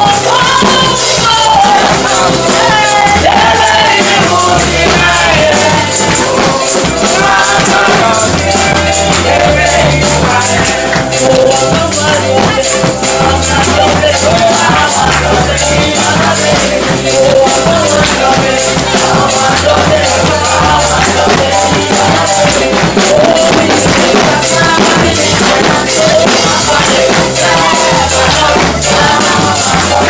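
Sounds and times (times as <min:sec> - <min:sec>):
bass line: 0:00.0 - 0:30.0
drum kit with cymbals: 0:00.0 - 0:30.0
shaker percussion: 0:00.0 - 0:30.0
woman singing into microphone: 0:00.0 - 0:30.0.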